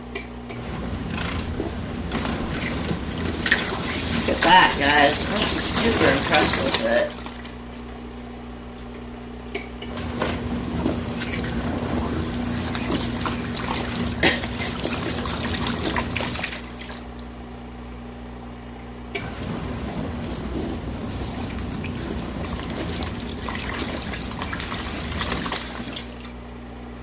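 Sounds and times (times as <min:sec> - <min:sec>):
washing machine motor humming: 0:00.0 - 0:27.0
water churning and sloshing: 0:00.6 - 0:08.2, 0:09.9 - 0:17.3, 0:19.2 - 0:26.5.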